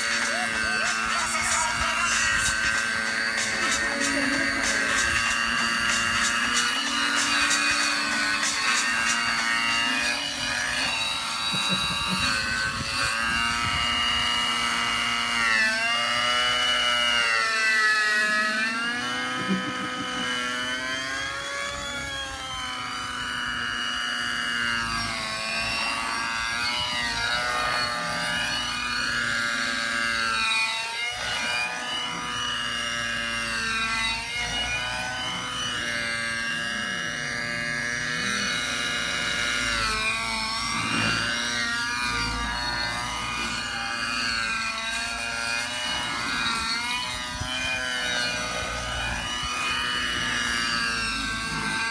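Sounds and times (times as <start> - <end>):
rc helicopter engine whine: 0.0 - 51.9.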